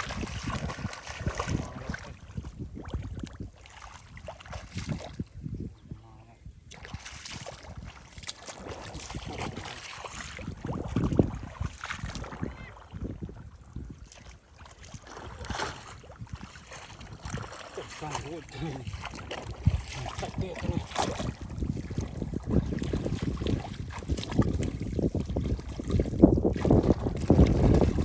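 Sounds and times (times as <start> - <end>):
shallow water sloshing: 0.0 - 5.4, 6.6 - 28.0.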